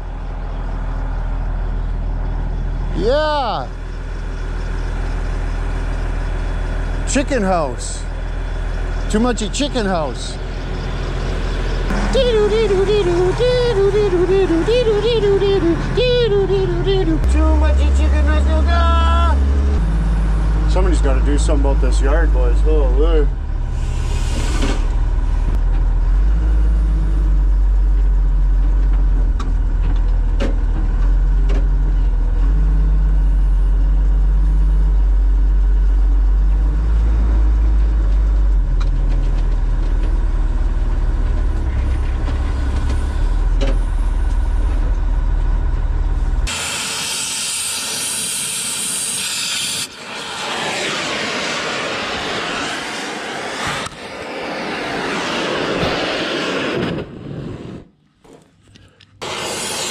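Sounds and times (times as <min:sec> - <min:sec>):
diesel engine revving: 0:00.0 - 0:56.1.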